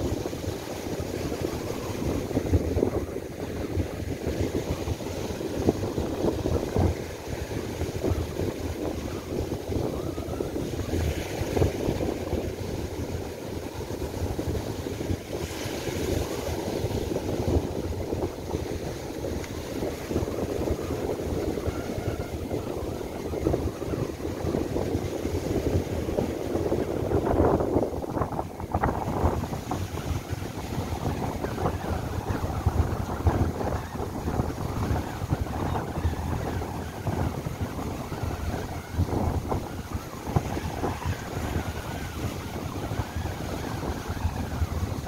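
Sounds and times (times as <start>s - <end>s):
gusty wind on microphone: 0.0s - 45.0s
surf breaking on shore: 0.0s - 45.0s.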